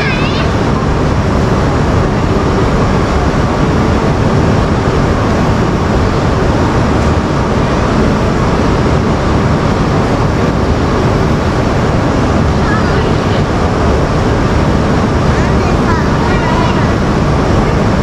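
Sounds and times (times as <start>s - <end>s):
standing train noise: 0.0s - 18.0s.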